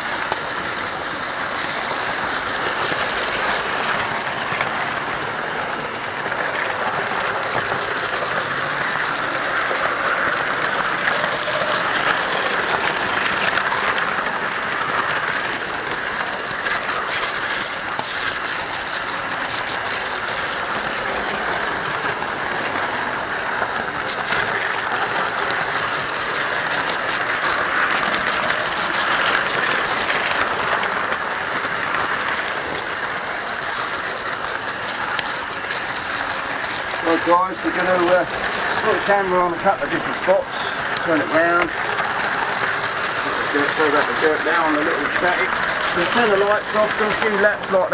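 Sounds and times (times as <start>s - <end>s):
model train motors whirring: 0.0s - 47.9s.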